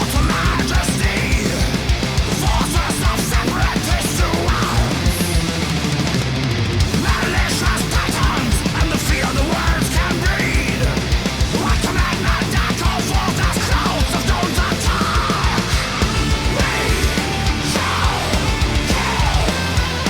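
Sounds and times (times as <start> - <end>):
person singing: 0.0 - 5.4, 6.9 - 20.0
fast drum beat: 0.0 - 20.0
heavy metal music: 0.0 - 20.0.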